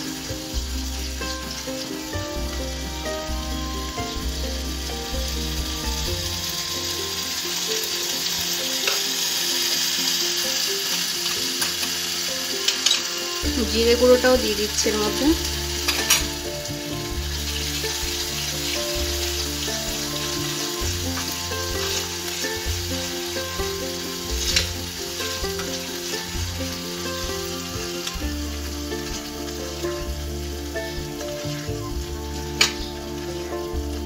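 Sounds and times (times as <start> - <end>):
spices sizzling in hot oil: 0.0 - 34.0.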